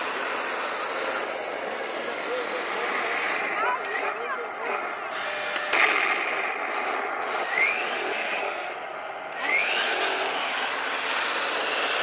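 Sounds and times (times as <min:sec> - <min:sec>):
electric motors whirring: 0:00.0 - 0:12.0.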